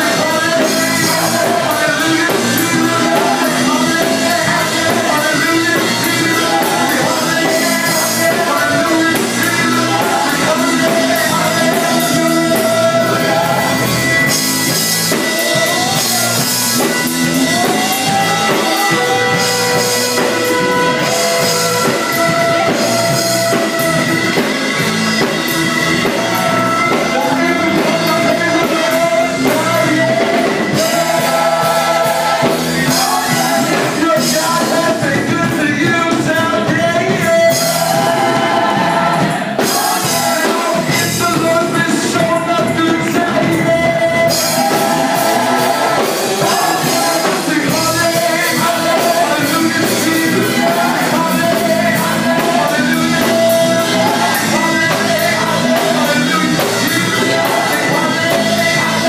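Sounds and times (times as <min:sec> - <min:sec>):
live band with drums: 0:00.0 - 0:59.0
vocal group singing: 0:00.0 - 0:59.0.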